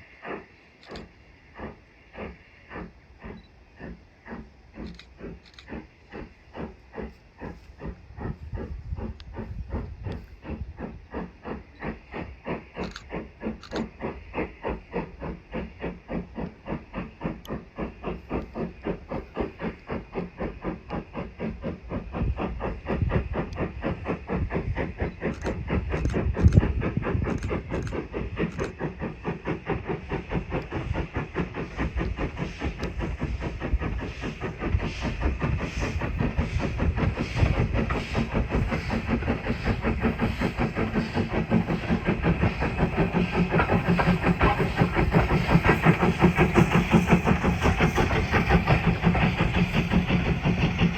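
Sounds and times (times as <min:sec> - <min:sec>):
steam hiss: 0:00.0 - 0:50.9
steam locomotive exhaust beats: 0:00.0 - 0:50.9.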